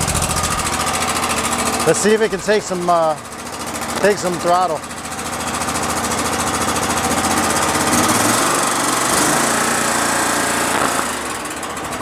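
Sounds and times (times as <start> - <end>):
mower engine revving and knocking: 0.0 - 12.0.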